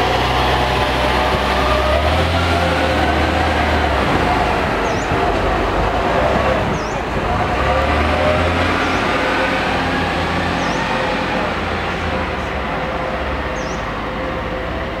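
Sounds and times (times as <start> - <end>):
bus diesel engine pulling hard: 0.0 - 15.0.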